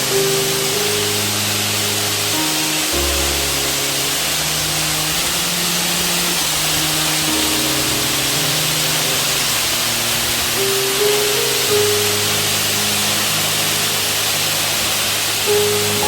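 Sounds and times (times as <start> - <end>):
background music: 0.0 - 16.0
stream water rushing: 0.0 - 16.0.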